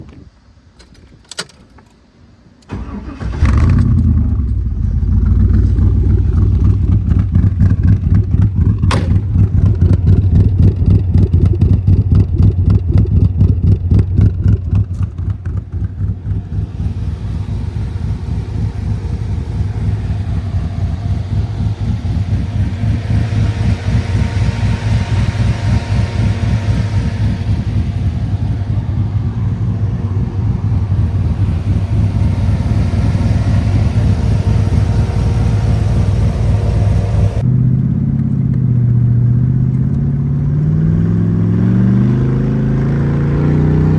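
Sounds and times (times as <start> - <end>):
car engine cranking and starting: 2.6 - 43.9
car engine idling: 2.7 - 41.8.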